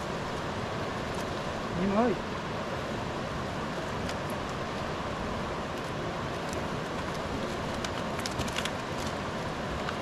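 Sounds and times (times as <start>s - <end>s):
flowing river water: 0.0s - 10.0s.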